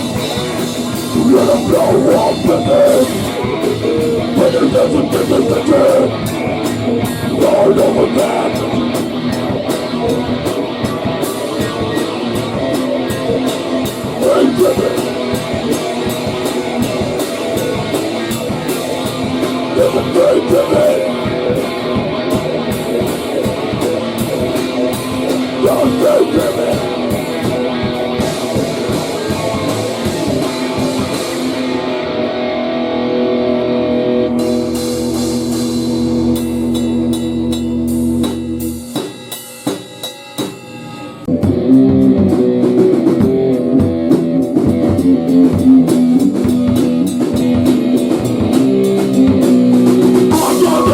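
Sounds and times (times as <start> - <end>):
pounding drum kit: 0.0 - 32.1, 34.3 - 50.9
distorted electric guitar: 0.0 - 50.9.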